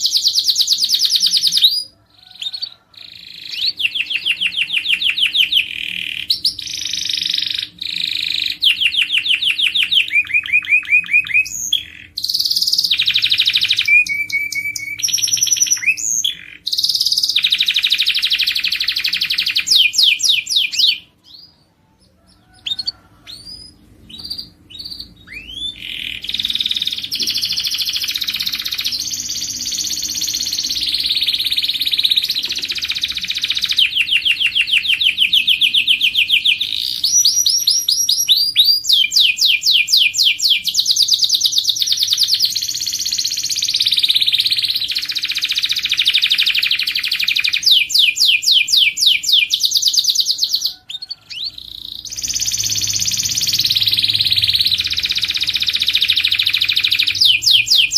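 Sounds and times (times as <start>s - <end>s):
canary singing: 0.0s - 57.9s.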